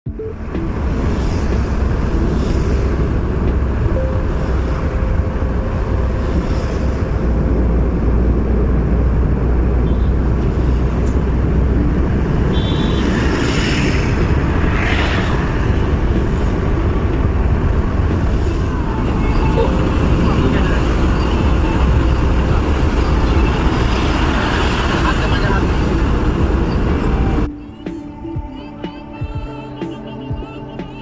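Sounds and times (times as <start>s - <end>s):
low engine rumble: 0.1s - 31.0s.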